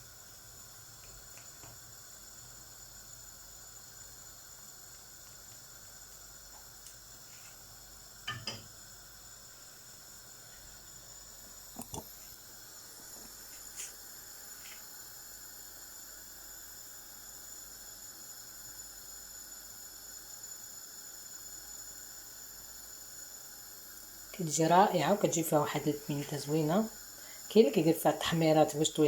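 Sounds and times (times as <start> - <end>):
paella simmering with hiss: 0.0 - 29.0.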